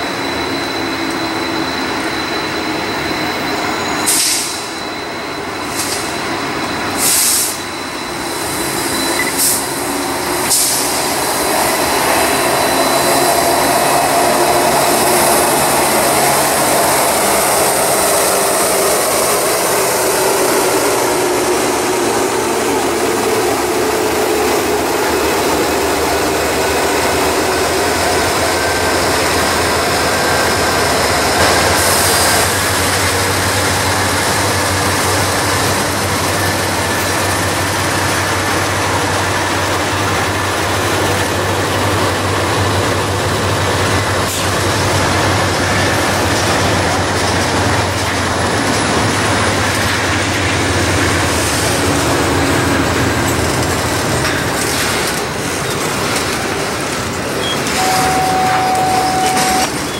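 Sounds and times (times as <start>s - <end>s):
diesel locomotive engines running: 0.0s - 59.9s
wheels rumbling on rails: 0.0s - 59.9s.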